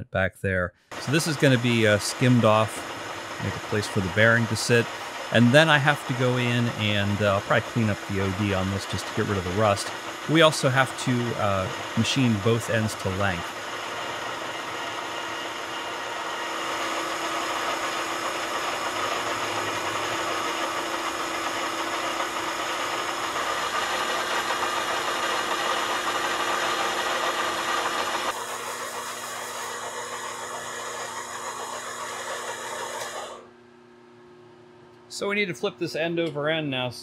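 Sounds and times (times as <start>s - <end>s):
cutting tool hiss: 0.9s - 33.5s
lathe motor hum: 0.9s - 33.6s.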